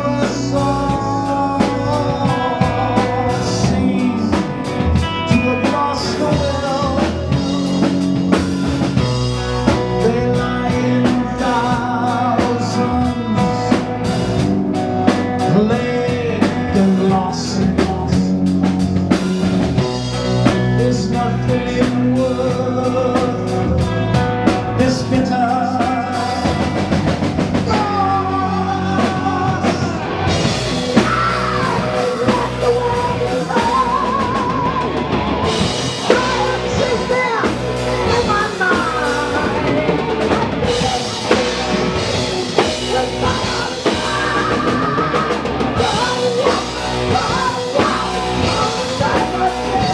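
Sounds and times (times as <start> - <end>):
man singing: 0.0 - 19.1, 19.8 - 49.9
drum kit: 0.0 - 49.9
electric guitars: 0.0 - 49.9.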